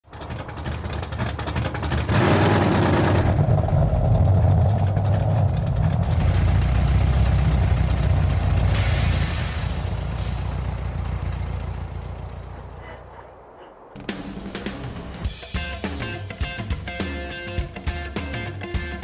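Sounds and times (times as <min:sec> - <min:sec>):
car engine rumble accelerating: 0:00.0 - 0:15.5.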